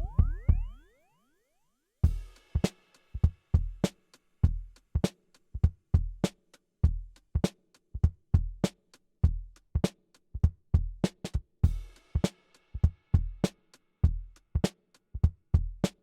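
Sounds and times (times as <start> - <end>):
hip hop drum beat: 0.0 - 0.8, 2.0 - 16.0.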